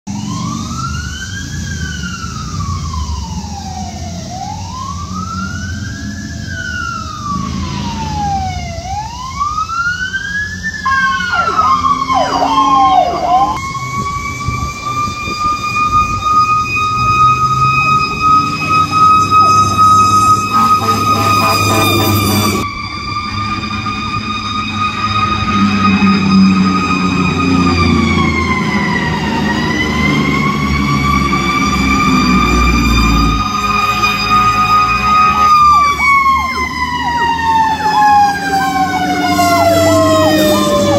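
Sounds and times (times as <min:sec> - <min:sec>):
emergency vehicle sirens: 0:00.0 - 0:40.9
engine and road rumble: 0:00.0 - 0:40.9.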